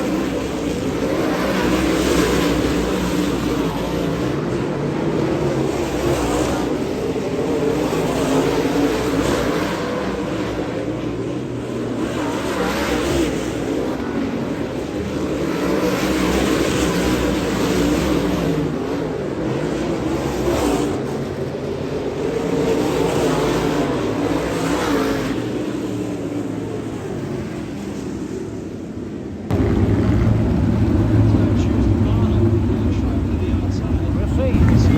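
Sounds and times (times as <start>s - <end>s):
race car engines running hard: 0.0s - 34.9s.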